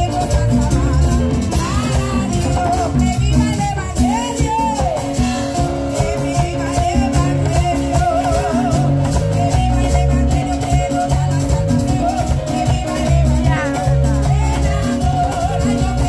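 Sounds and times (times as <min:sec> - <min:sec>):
latin-style band playing: 0:00.0 - 0:16.0
woman singing into microphone: 0:00.0 - 0:16.0.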